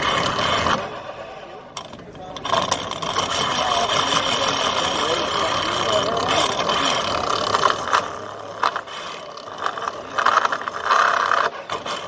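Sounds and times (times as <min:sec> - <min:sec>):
cutter clattering and grinding in pipe: 0:00.0 - 0:00.9, 0:01.7 - 0:12.0.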